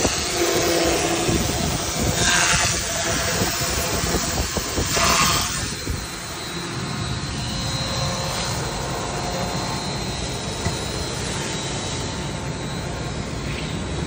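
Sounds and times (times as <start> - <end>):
sanding machine rushing: 0.0 - 12.5.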